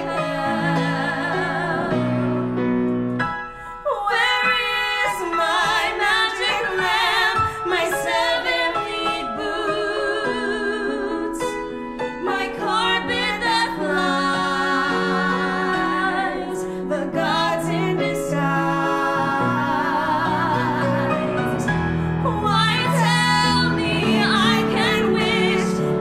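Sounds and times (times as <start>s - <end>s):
women singing duet: 0.0s - 2.4s, 3.6s - 26.0s
piano accompaniment: 0.0s - 26.0s.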